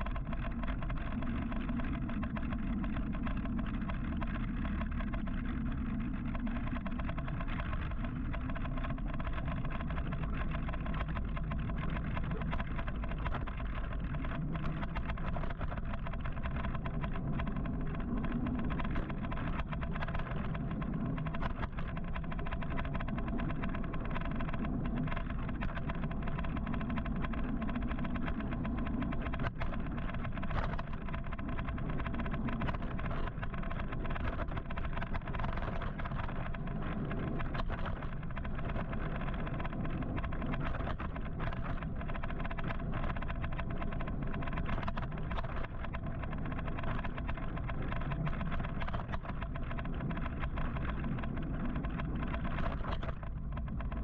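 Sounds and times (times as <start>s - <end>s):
faint steady hum: 0.0s - 54.0s
wind: 0.0s - 54.0s.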